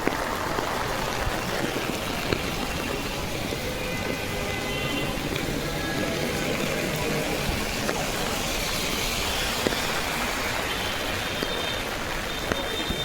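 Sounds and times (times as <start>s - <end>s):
rain falling on street: 0.0s - 13.0s
road traffic: 0.0s - 13.0s.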